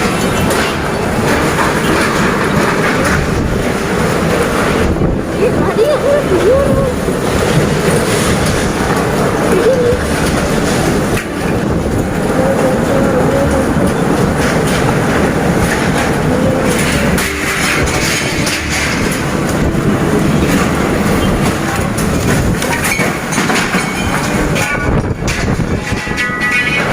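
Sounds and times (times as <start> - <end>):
heavy rain: 0.0 - 26.9
strong storm wind: 0.0 - 26.9.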